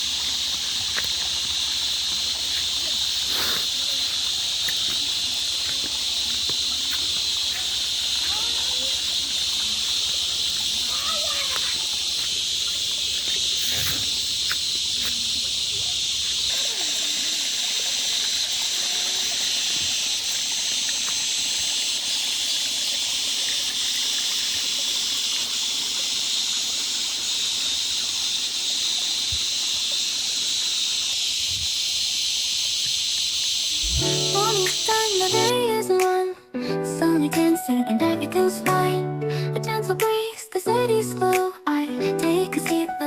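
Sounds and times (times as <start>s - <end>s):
high-pitched hiss: 0.0s - 37.7s.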